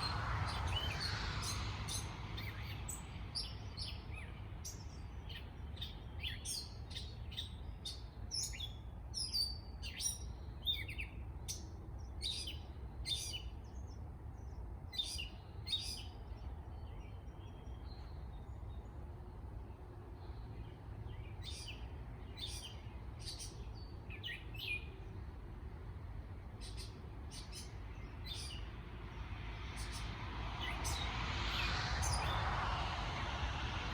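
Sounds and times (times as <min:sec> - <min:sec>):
songbirds chirping: 0:00.0 - 0:33.2.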